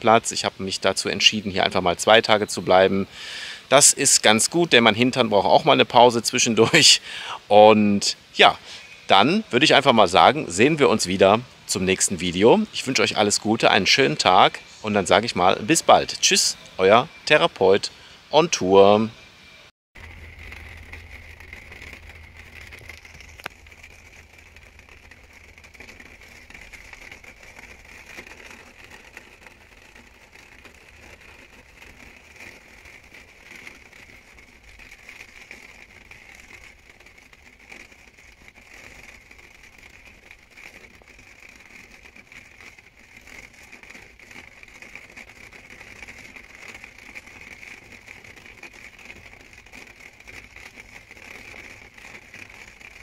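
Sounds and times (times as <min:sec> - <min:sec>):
rain pattering on window: 0:00.0 - 0:16.5, 0:20.0 - 0:53.0.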